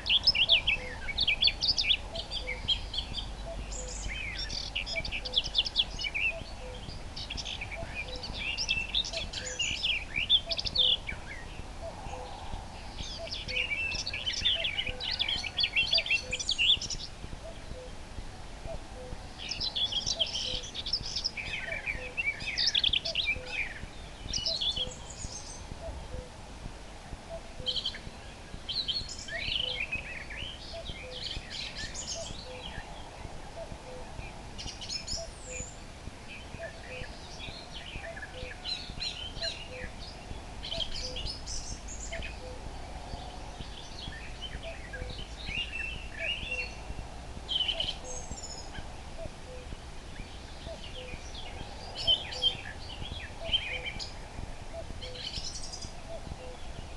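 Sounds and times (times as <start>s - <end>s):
faint cuckoo calling: 0.0s - 18.0s, 18.6s - 26.4s, 27.2s - 28.2s, 28.8s - 56.8s
nightingale singing: 0.0s - 56.9s.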